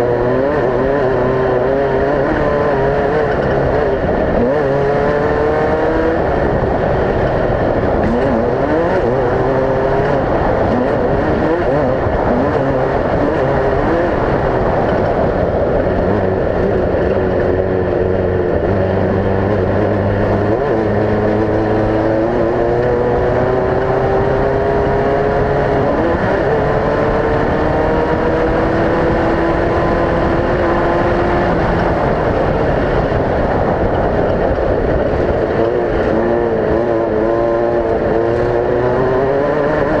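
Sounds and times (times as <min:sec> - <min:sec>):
constant loud noise: 0:00.0 - 0:40.0
race vehicle engines revving: 0:00.0 - 0:40.0.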